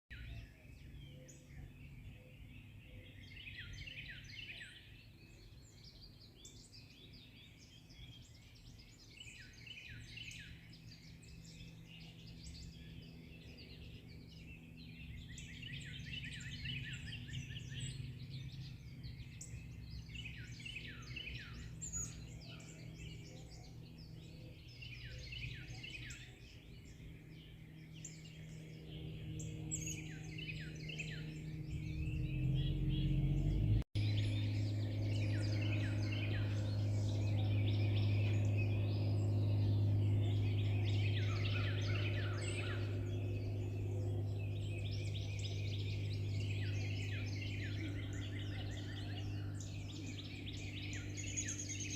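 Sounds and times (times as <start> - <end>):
songbirds singing and chirping: 0.1 - 51.9
steady low hum: 0.1 - 51.9.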